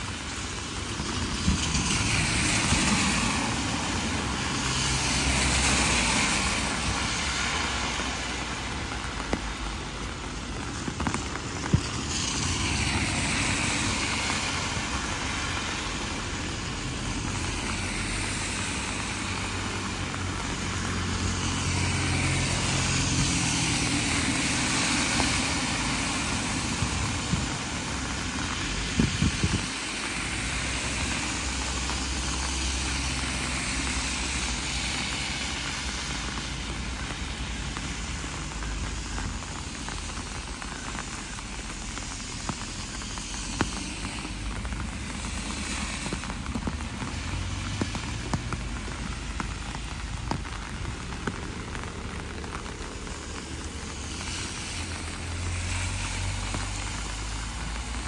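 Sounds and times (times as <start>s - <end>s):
heavy rain falling: 0.0s - 58.0s
tyres hissing on wet road: 0.0s - 58.0s.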